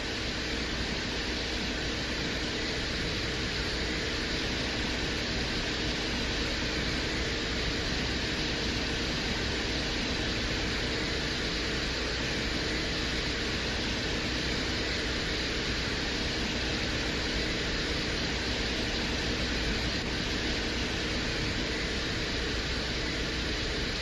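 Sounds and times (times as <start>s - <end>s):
steady rushing hiss: 0.0s - 24.0s.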